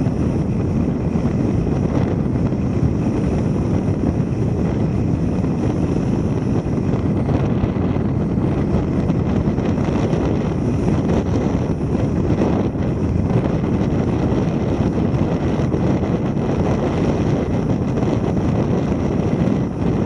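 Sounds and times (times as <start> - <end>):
car road noise at speed: 0.0 - 20.0
wind buffeting microphone: 0.0 - 20.0.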